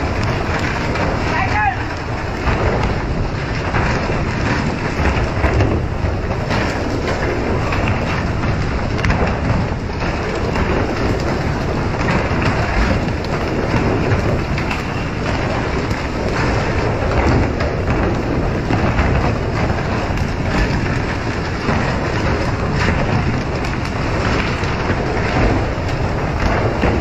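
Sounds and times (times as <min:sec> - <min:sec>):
low rumble: 0:00.0 - 0:27.0
water rushing along boat: 0:00.0 - 0:27.0.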